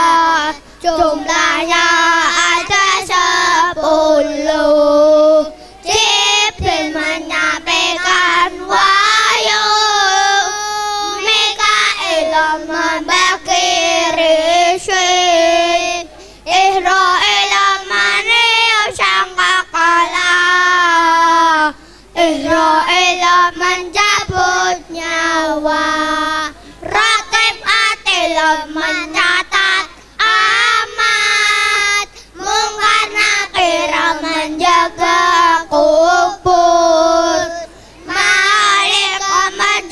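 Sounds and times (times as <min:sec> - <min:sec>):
children singing into microphones: 0:00.0 - 0:39.9.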